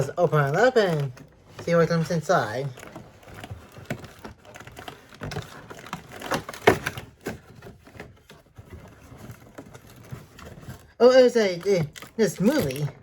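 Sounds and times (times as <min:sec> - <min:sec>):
cardboard clicks and crinkles: 0:00.0 - 0:13.0.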